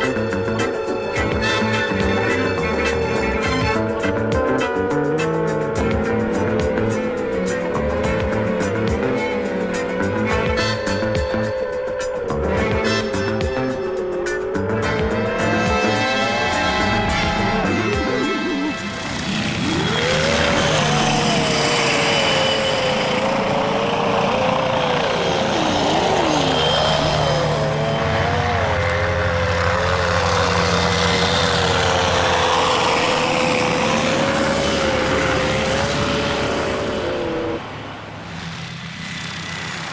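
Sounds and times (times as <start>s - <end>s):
rc helicopter motor whine: 0.0s - 39.9s
rotor noise rushing: 0.0s - 39.9s.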